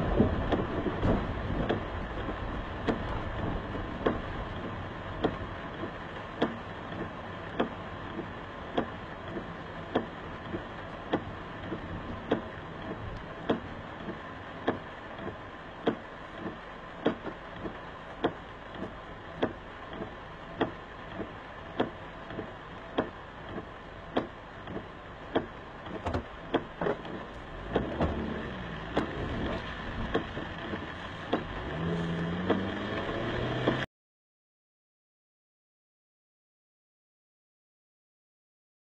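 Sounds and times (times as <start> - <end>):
road and rain noise: 0.0 - 33.9
windshield wipers sweeping: 0.0 - 33.9
wiper blade knocking: 0.1 - 33.8.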